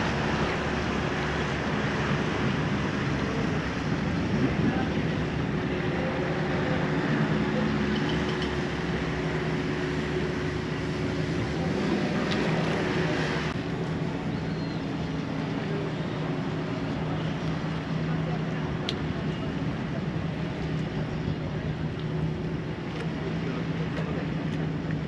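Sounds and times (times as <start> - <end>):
boat engine humming: 0.0 - 25.0
wind and water rushing: 0.0 - 25.0.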